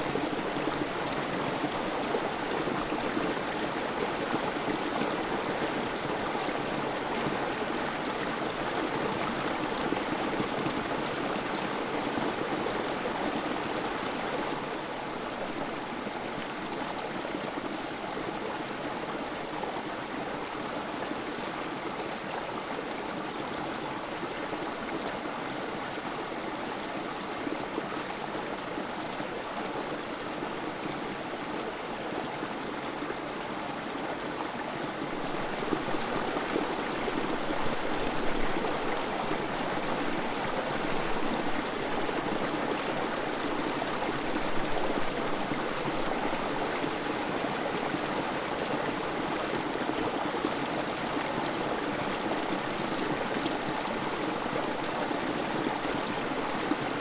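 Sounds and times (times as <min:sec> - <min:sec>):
creek water over rocks: 0:00.0 - 0:57.0.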